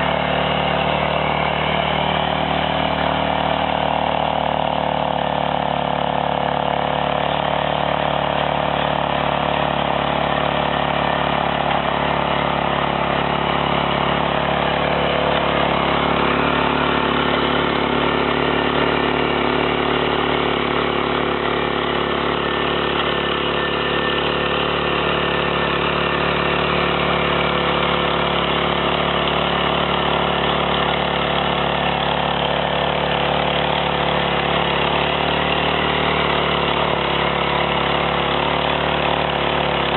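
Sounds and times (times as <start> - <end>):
farm machinery engine running: 0.0 - 39.9.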